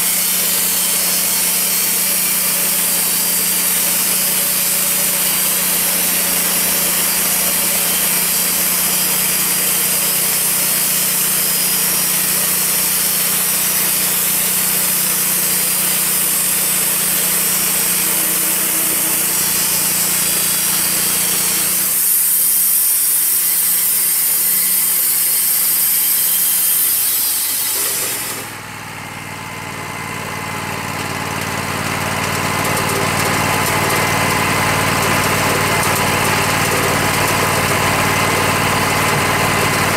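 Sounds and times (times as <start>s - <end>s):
band saw blade sawing log: 0.0s - 28.7s, 31.0s - 39.9s.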